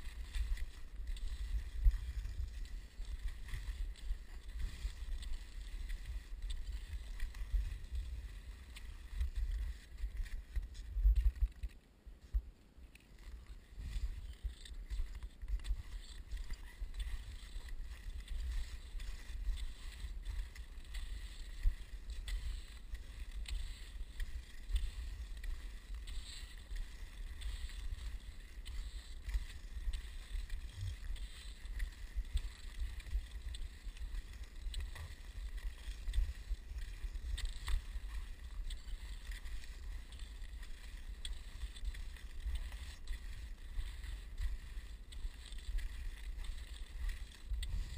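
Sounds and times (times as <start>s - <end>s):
wind rumbling on microphone: 0.0s - 11.7s, 13.4s - 47.9s
skis scraping on snow: 0.0s - 47.9s.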